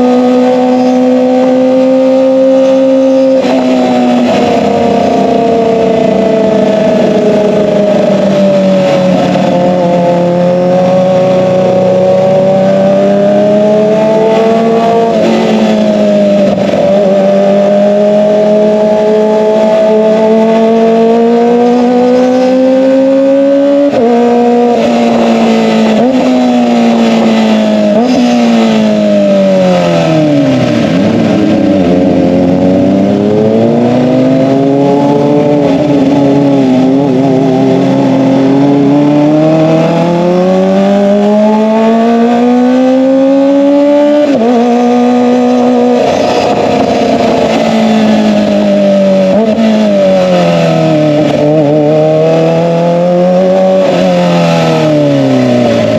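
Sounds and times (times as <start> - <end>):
motorcycle engine revving high: 0.0 - 55.9.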